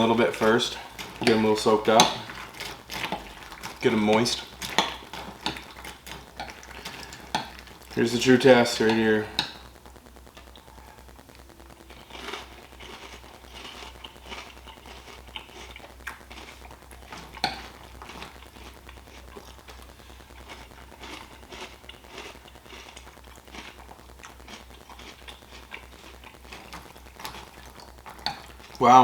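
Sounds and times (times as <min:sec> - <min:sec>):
crunching and chewing: 0:00.0 - 0:29.0
steady low hum: 0:00.0 - 0:29.0.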